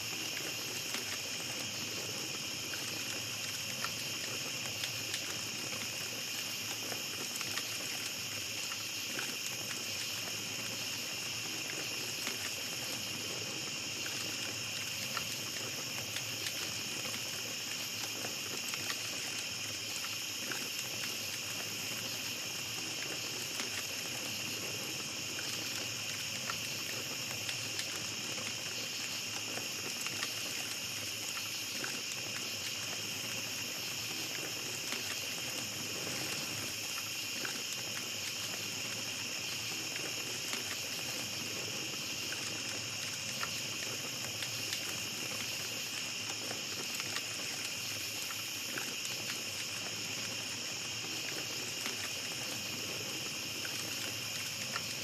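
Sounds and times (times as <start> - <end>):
campfire crackling: 0.0 - 55.0
night insects chirping: 0.0 - 55.0.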